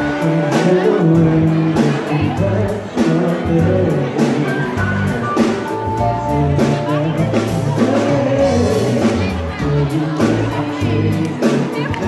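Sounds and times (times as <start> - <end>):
drum kit beat: 0.0 - 12.0
live pop band music: 0.0 - 12.0
person singing: 0.0 - 12.0.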